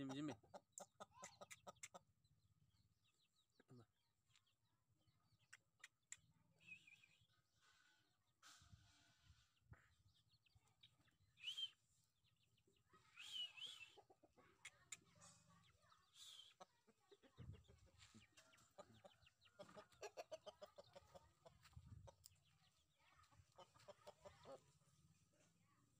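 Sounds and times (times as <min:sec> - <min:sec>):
chickens clucking: 0:00.0 - 0:03.4, 0:05.3 - 0:06.5, 0:07.2 - 0:25.9.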